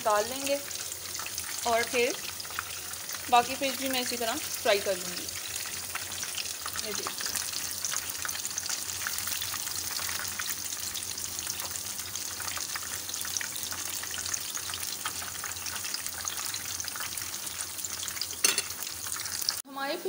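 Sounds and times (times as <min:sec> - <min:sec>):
fish deep-frying in oil: 0:00.0 - 0:20.0.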